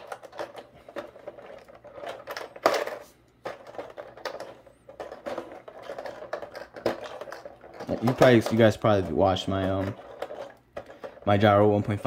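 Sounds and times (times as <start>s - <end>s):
plastic parts clicking in a tray: 0.0s - 12.0s.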